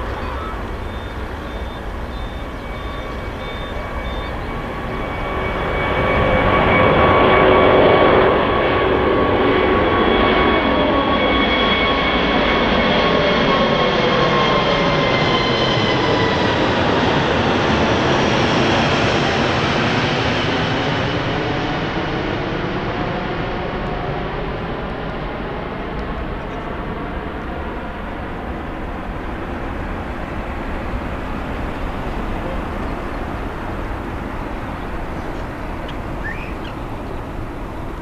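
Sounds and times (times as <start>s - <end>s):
jet airliner roar and whine: 0.0s - 38.0s.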